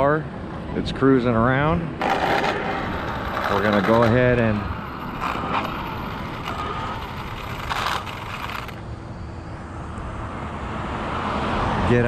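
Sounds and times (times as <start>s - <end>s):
car approaching: 0.0s - 12.0s
roadside traffic noise: 0.0s - 12.0s.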